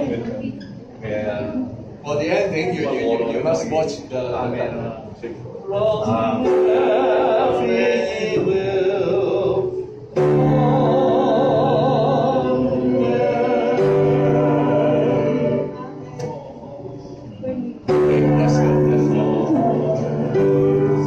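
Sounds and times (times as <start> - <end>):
choir singing a hymn: 2.4 - 4.1, 5.6 - 21.0.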